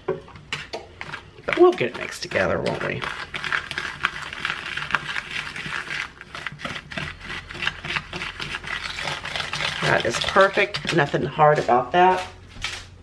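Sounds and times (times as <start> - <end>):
whisk tapping and scraping bowl: 0.4 - 11.8.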